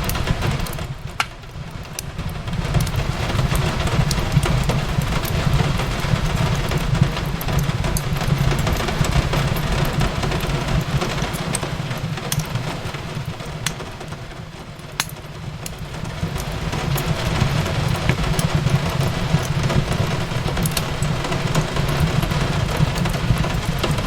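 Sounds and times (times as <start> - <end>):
rain hissing on a window: 0.0 - 24.0
wood fire crackling and popping: 0.0 - 24.0.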